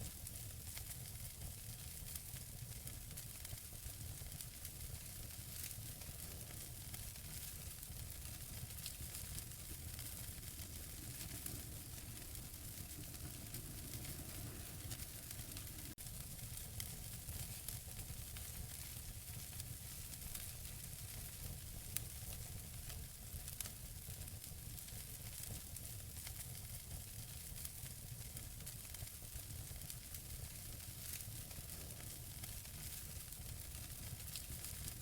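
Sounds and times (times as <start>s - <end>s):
wood fire hissing: 0.0s - 35.0s
logs crackling and popping: 4.4s - 23.8s, 25.4s - 35.0s.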